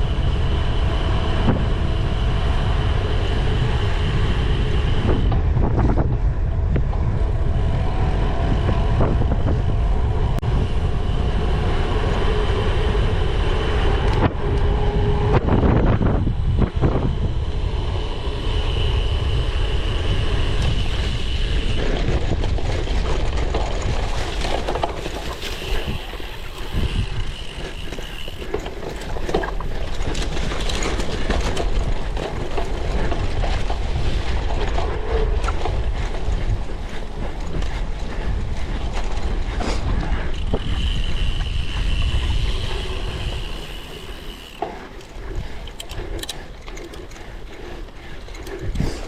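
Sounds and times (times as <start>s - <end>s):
bike chain and frame rattling: 0.0s - 49.0s
bike freewheel buzzing: 0.0s - 49.0s
wind rumbling on microphone: 0.0s - 49.0s.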